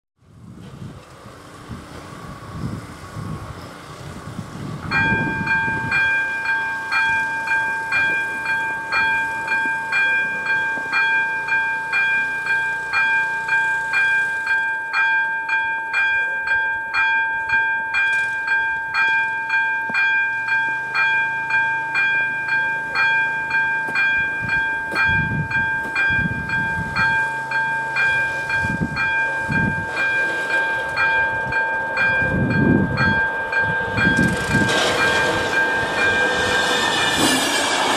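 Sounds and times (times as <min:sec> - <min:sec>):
level-crossing bell ringing: 0:04.9 - 0:37.2.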